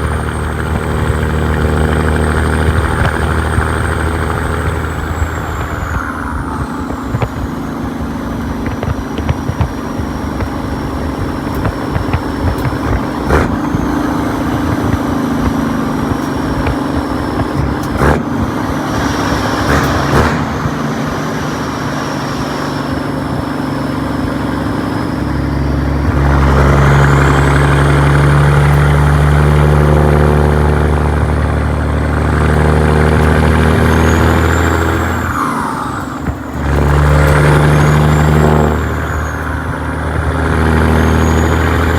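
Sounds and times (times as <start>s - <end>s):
diesel truck engine running: 0.0s - 41.9s
high engine whistle: 0.0s - 41.9s.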